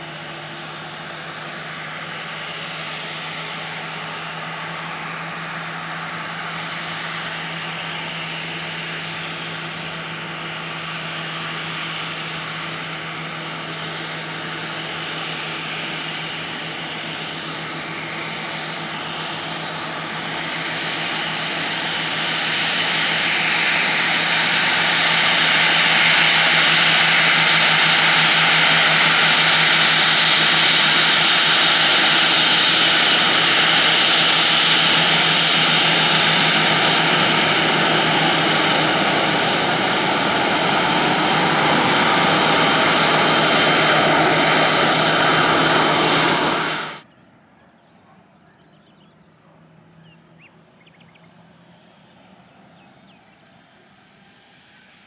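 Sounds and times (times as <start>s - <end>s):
jet engines spooling up: 0.0s - 47.1s, 51.4s - 55.0s.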